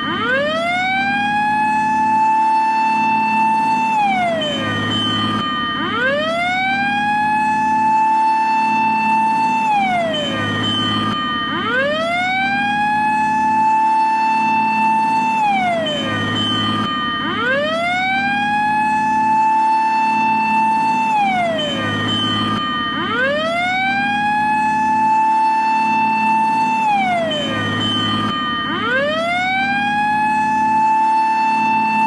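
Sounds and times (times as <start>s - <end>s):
fire engine siren wailing: 0.0s - 32.0s.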